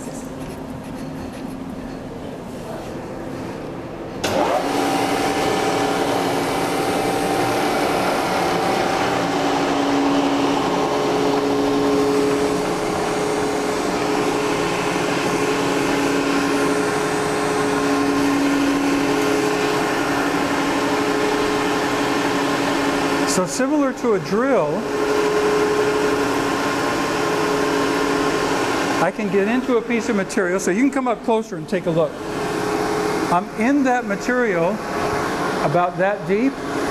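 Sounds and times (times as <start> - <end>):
milling machine motor humming: 3.6 - 36.9.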